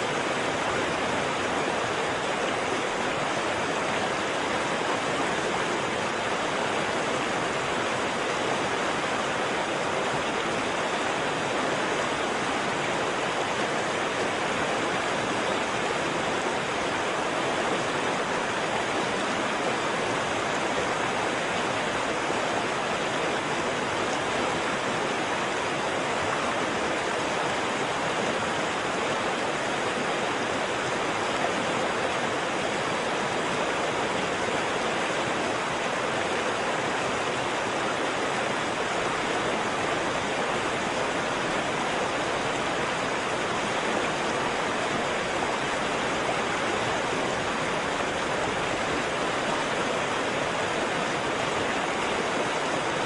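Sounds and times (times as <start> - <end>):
waterfall roaring: 0.0 - 53.0.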